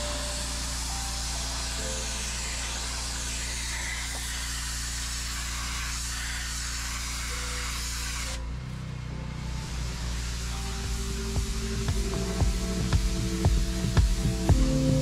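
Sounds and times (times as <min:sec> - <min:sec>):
pressure washer spraying concrete: 0:00.0 - 0:08.4, 0:09.8 - 0:15.0.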